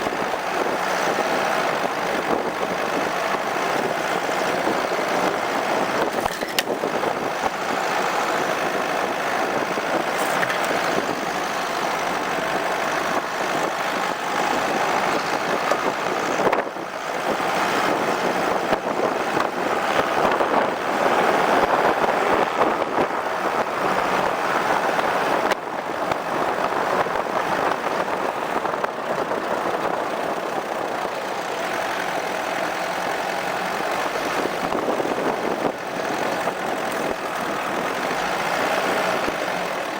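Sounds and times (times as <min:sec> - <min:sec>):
engine and tyre noise: 0:00.0 - 0:39.9
wind: 0:00.0 - 0:39.9.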